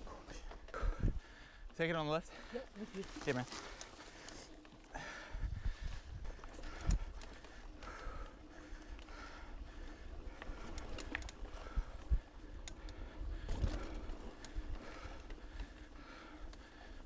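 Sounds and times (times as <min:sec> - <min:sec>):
bike rattling and clicking: 0:00.0 - 0:17.0
bike rolling over dirt: 0:02.8 - 0:17.0.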